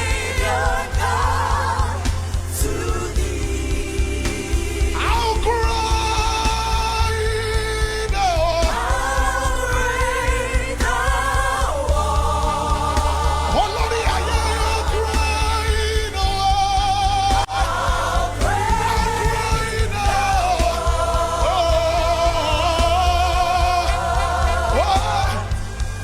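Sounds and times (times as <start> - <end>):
band with bass: 0.0 - 26.0
vocalist singing with vibrato: 0.0 - 26.0.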